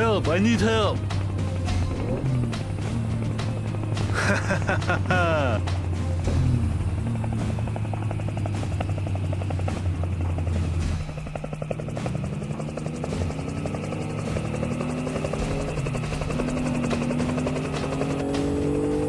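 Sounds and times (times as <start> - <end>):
helicopter rotor blades chopping: 0.0 - 19.0
low engine hum: 0.0 - 19.0.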